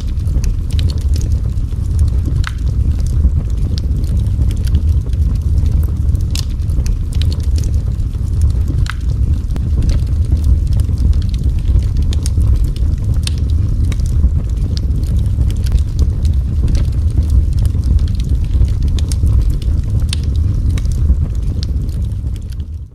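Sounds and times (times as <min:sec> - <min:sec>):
fire burning with low roar: 0:00.0 - 0:22.9
fire crackles and pops: 0:00.0 - 0:22.9.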